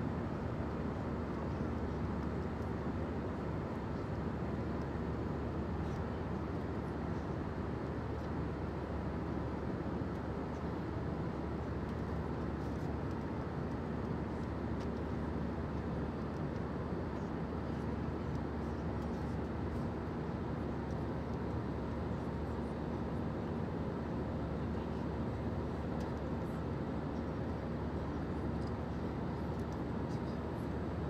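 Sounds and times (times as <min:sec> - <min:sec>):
faint steady hum: 0:00.0 - 0:31.0
airliner cabin engine rumble: 0:00.1 - 0:31.0.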